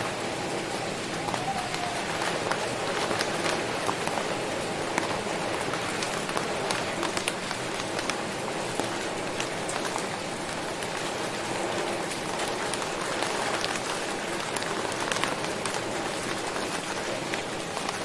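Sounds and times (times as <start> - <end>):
rain falling: 0.0 - 18.0
raindrops striking a surface: 0.0 - 18.0.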